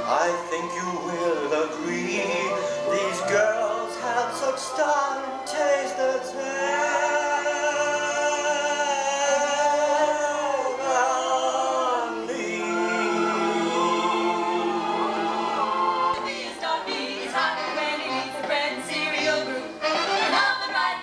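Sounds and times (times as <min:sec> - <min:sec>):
voices singing held chord: 0:00.0 - 0:21.0.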